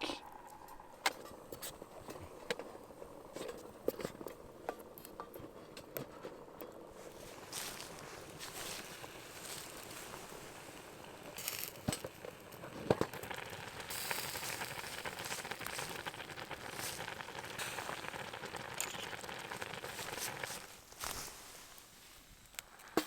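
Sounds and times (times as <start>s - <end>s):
small wood fire crackling: 0.0s - 23.0s.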